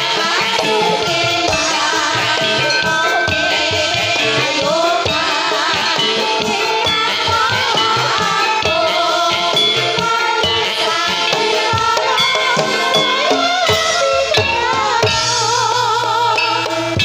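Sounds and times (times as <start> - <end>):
drums: 0.0 - 17.0
rattling percussion: 0.0 - 17.0
wavering melody: 0.0 - 17.0.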